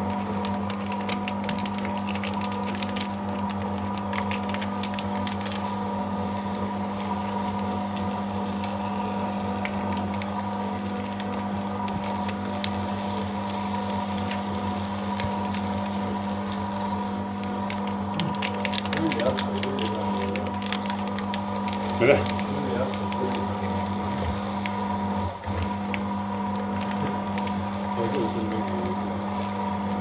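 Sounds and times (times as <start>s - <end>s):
paper ticks and crackles: 0.0s - 6.0s, 6.9s - 29.5s
paper shredder motor humming: 0.0s - 30.0s.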